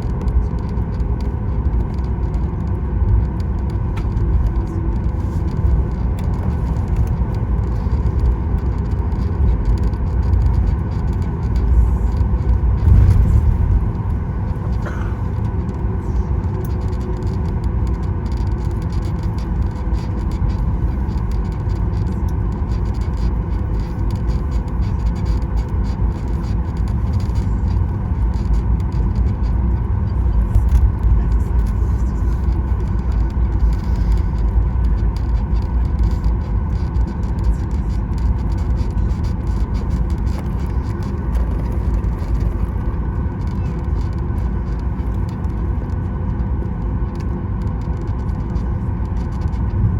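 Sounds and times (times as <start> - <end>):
cabin ticks and rattles: 0.0 - 49.9
faint steady whine: 0.0 - 49.9
jet engines idling rumble: 0.0 - 49.9.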